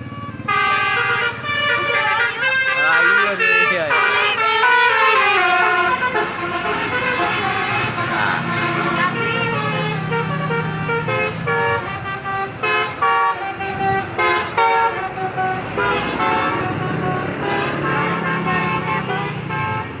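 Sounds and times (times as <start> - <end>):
musical air horn tune: 0.5 - 20.0.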